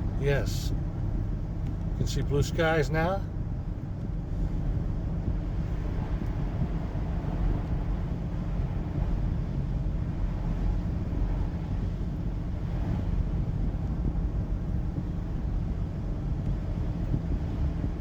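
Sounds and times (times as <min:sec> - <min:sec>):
car interior engine and road noise: 0:00.0 - 0:18.0.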